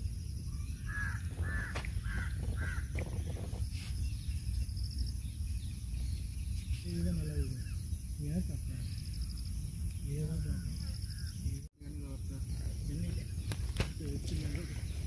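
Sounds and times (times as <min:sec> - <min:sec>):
bird calling: 0:00.5 - 0:15.0.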